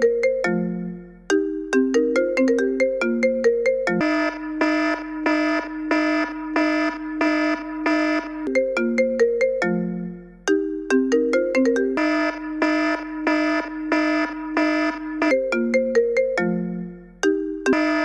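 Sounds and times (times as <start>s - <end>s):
electronic ringtone melody: 0.0s - 18.0s.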